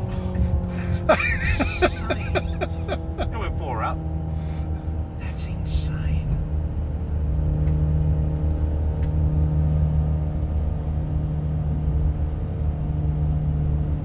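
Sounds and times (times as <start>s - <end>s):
road rumble: 0.0s - 14.0s.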